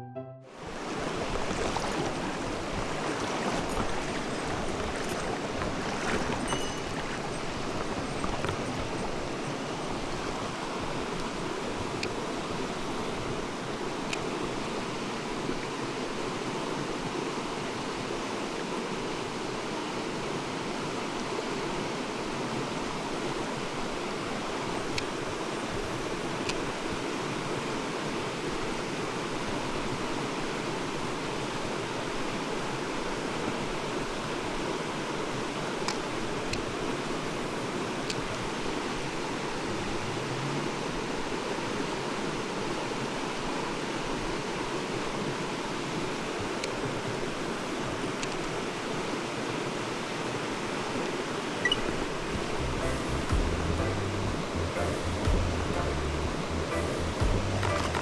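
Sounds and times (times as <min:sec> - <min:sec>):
stream rushing over rocks: 0:00.6 - 0:58.0.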